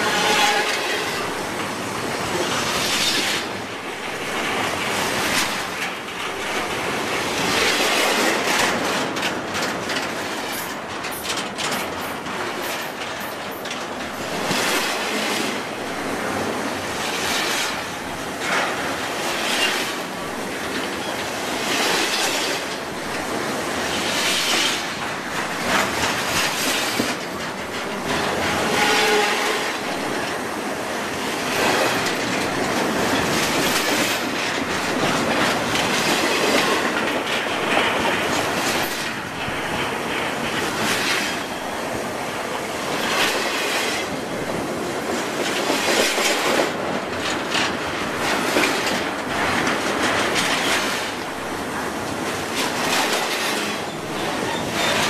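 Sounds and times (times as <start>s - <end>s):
steel wheels rushing on rail: 0.0s - 55.0s.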